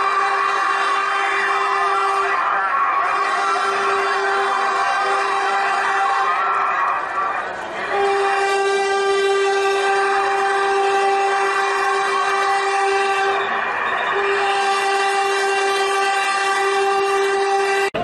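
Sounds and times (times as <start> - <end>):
locomotive horn blast: 0.0 - 18.0.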